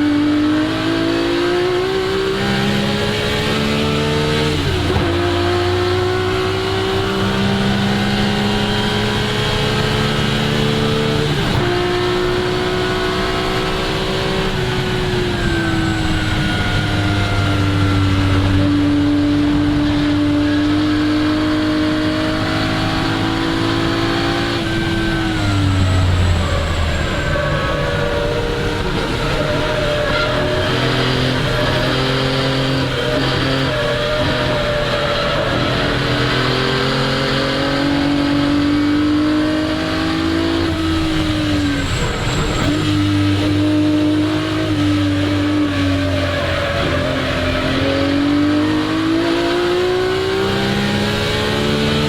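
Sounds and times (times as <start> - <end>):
car engine revving under load: 0.0 - 52.0.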